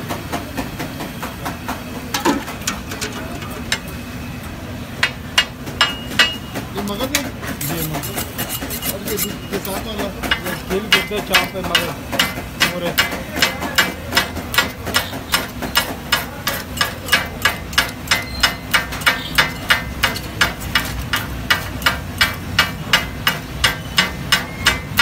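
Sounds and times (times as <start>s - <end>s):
steel blades striking iron griddle: 2.1s - 4.0s, 5.0s - 25.0s.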